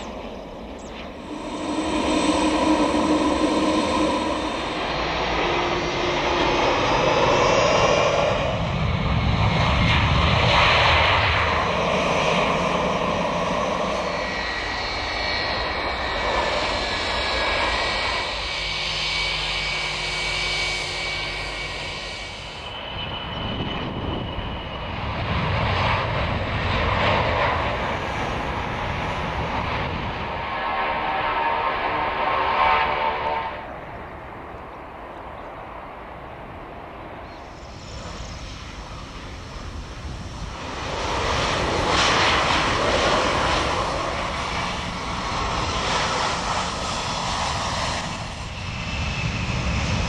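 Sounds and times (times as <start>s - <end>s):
jet engines passing: 0.0s - 50.0s.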